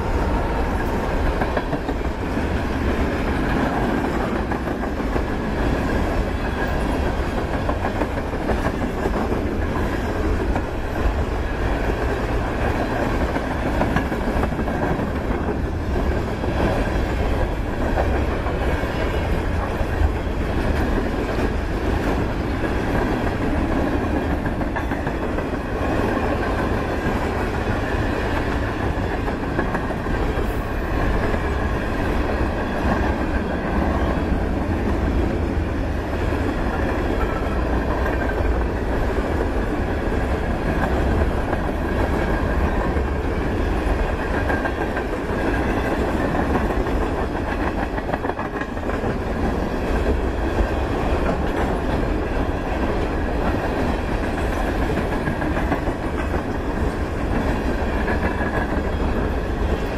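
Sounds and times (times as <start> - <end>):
train wheels rumbling on rail: 0.0 - 59.9
wheels clicking over rail joints: 0.0 - 59.9.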